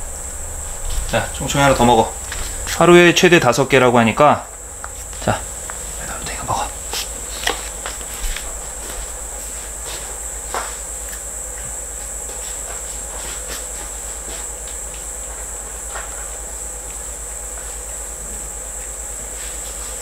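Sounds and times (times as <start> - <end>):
low buzz: 0.0 - 20.0
steady high-pitched whine: 0.0 - 20.0.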